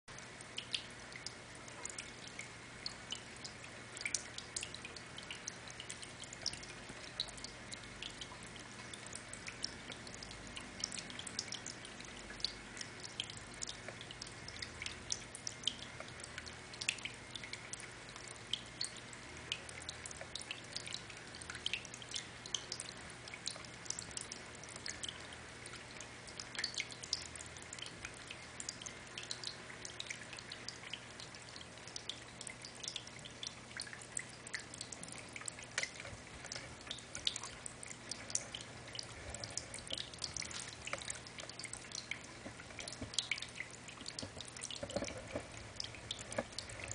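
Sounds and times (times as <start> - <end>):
water drips and plinks: 0.1 - 46.9.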